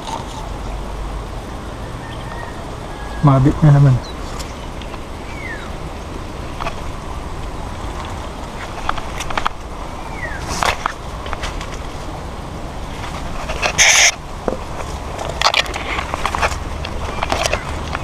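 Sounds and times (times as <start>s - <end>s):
leaves and twigs rustling: 0.0s - 18.0s
outdoor background noise: 0.0s - 18.0s.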